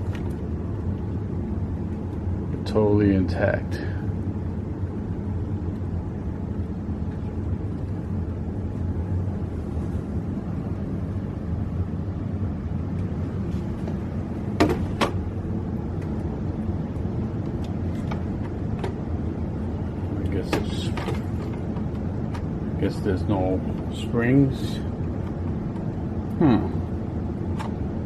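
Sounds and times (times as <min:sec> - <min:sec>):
low rumble: 0:03.6 - 0:28.0.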